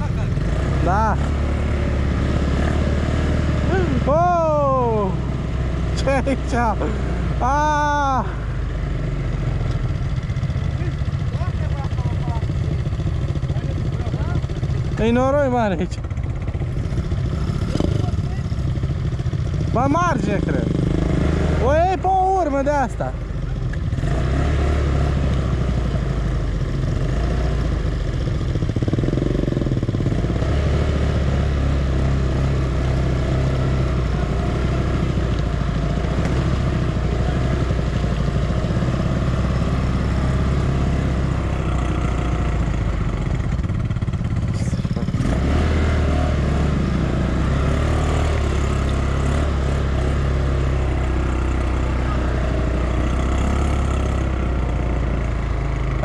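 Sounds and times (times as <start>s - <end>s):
atv engine running under load: 0.0s - 56.0s.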